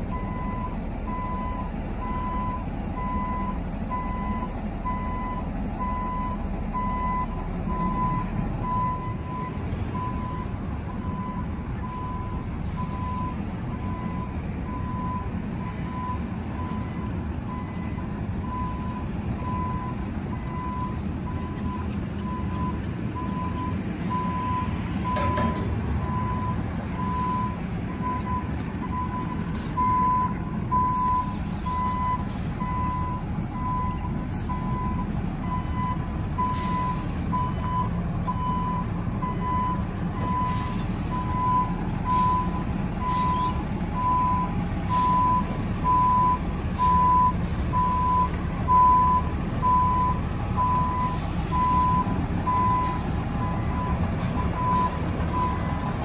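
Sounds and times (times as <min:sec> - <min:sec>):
diesel engine running: 0:00.0 - 0:56.0
backup alarm beeping: 0:00.1 - 0:56.0.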